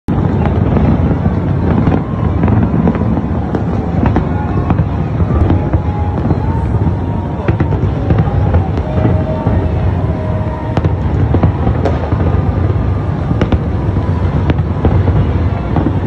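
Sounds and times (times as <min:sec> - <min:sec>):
deep firework booms: 0:00.1 - 0:16.0
firework bangs and crackles: 0:00.1 - 0:16.0.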